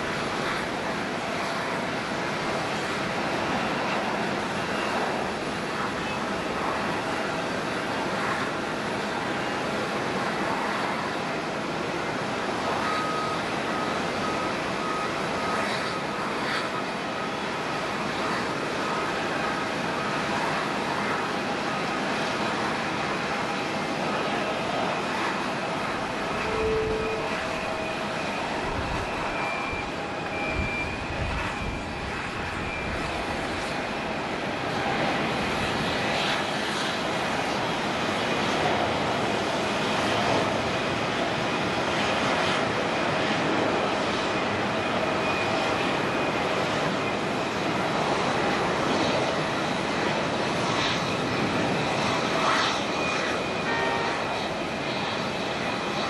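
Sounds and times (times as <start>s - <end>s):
jet airliner taking off: 0.0s - 56.0s.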